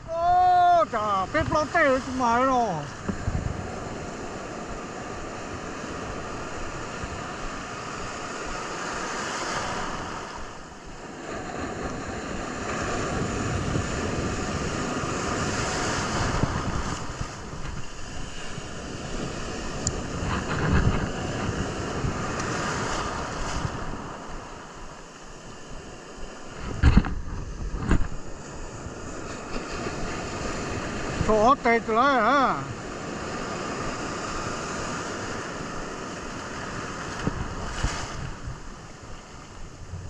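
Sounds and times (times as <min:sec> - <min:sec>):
wind buffeting microphone: 0:00.0 - 0:31.6, 0:32.6 - 0:40.0
surf washing onto beach: 0:00.0 - 0:40.0.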